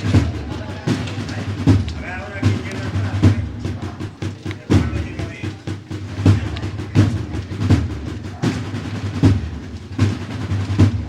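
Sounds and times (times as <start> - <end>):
bass drum march beat: 0.0 - 11.0
snare drum strokes: 0.0 - 11.0.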